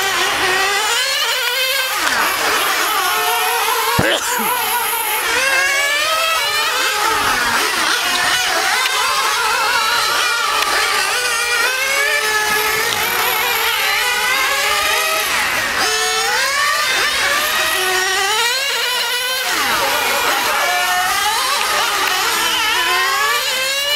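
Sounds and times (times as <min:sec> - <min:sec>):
small engine revving: 0:00.0 - 0:23.9.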